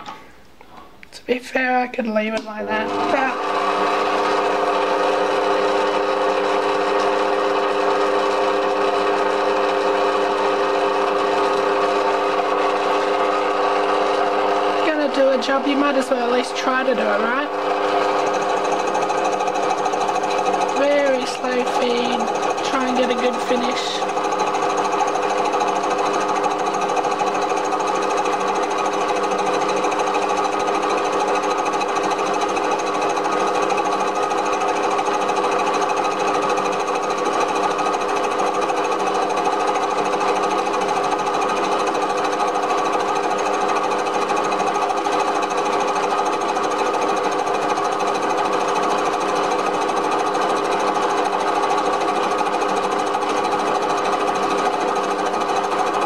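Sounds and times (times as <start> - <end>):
metal lathe whirring: 2.6 - 56.0.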